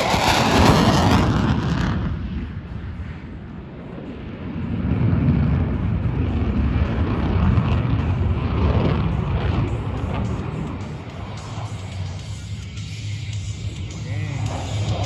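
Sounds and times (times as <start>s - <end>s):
aircraft engines rumbling overhead: 0.0s - 15.0s.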